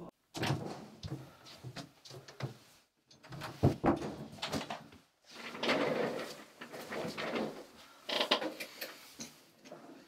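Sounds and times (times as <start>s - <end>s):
rustling of person moving: 0.3s - 10.0s.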